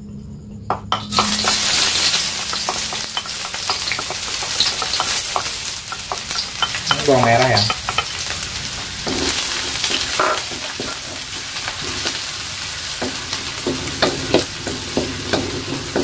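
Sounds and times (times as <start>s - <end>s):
shallots sizzling in hot oil: 0.9s - 16.0s
wooden spatula scraping a wok: 1.0s - 16.0s.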